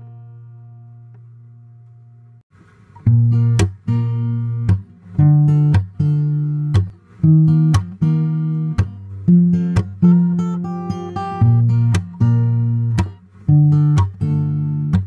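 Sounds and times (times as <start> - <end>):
plucked acoustic guitar: 2.6 - 15.0.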